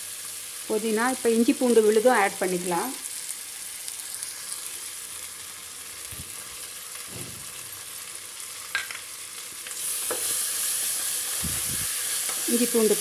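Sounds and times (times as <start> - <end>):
masala sizzling in a pressure cooker: 0.0 - 13.0.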